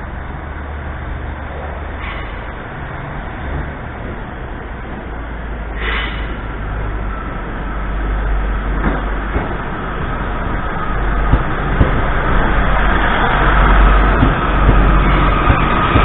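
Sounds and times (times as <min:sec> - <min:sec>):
diesel train engine and wheels: 0:00.0 - 0:16.0.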